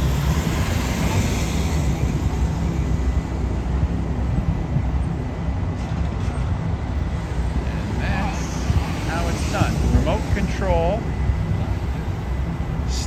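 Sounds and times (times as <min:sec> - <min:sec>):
heavy road traffic rumble: 0:00.0 - 0:13.0
vehicles passing close by: 0:00.0 - 0:13.0.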